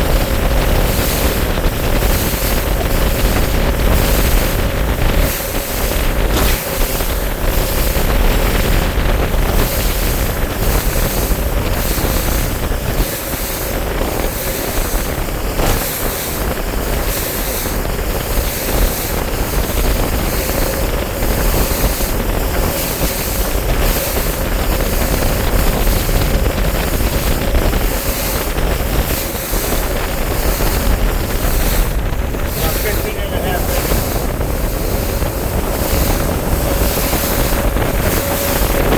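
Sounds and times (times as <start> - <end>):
outboard motor: 0.0 - 38.9
rushing water: 0.0 - 38.9
wind buffeting microphone: 0.0 - 38.9.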